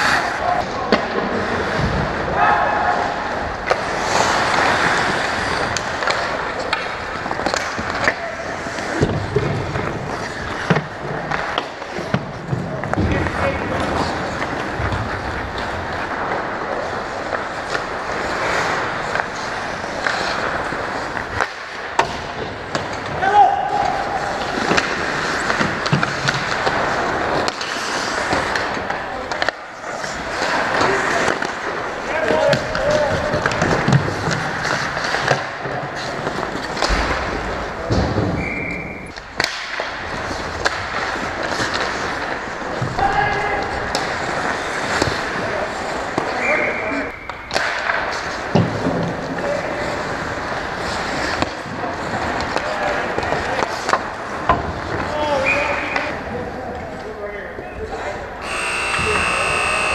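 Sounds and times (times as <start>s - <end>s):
skates scraping on ice: 0.0s - 57.2s, 57.8s - 59.9s
hockey sticks and puck clacking: 0.0s - 59.9s.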